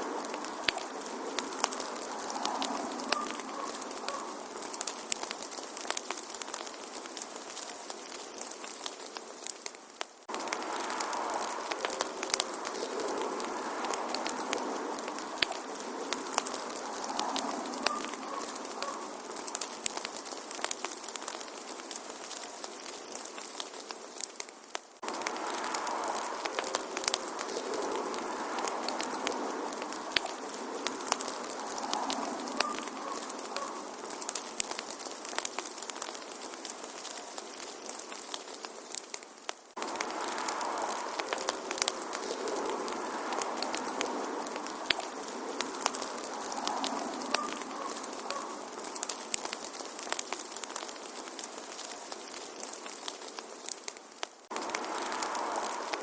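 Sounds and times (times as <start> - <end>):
hiss of flame: 0.0 - 39.0, 39.7 - 56.0
wood fire crackling and popping: 0.0 - 56.0.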